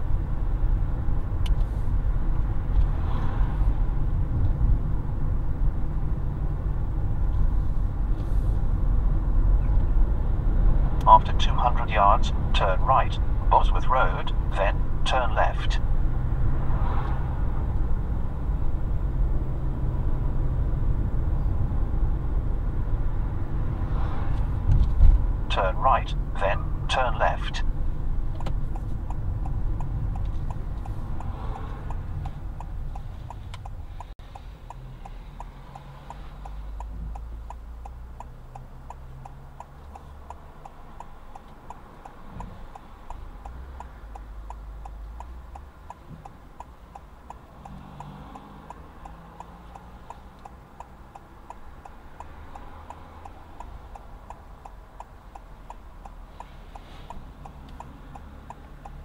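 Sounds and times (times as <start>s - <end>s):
car engine and road rumble: 0.0s - 59.0s
turn signal ticking: 0.0s - 59.0s.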